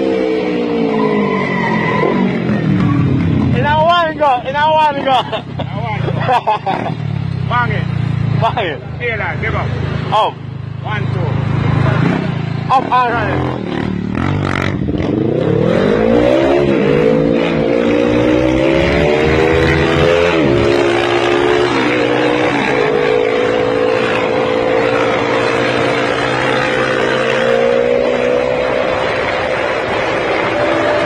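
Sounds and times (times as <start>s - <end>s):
motorcycle engine accelerating: 0.0s - 31.0s
wind and road noise: 0.0s - 31.0s.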